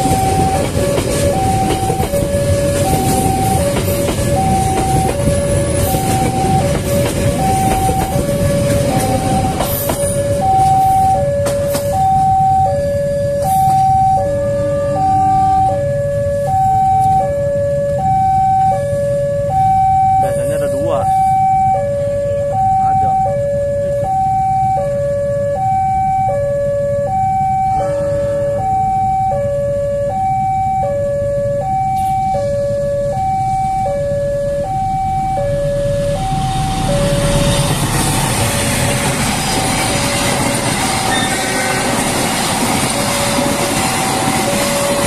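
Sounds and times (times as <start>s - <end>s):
train passing on rails: 0.0s - 23.2s, 31.4s - 45.0s.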